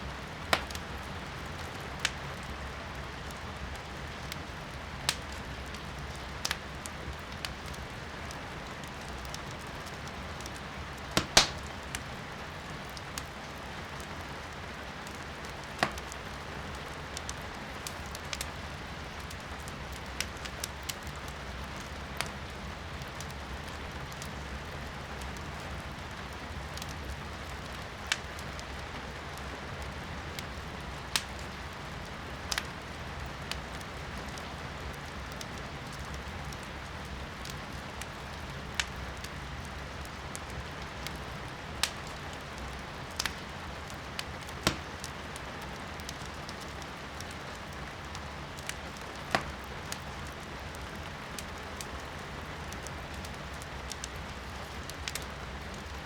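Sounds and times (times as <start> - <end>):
firewood crackling and popping: 0.0 - 56.0.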